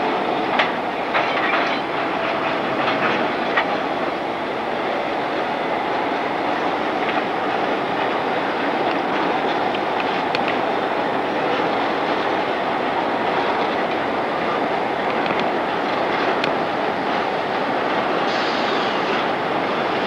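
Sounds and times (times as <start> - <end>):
diesel locomotives rolling past: 0.0 - 20.0.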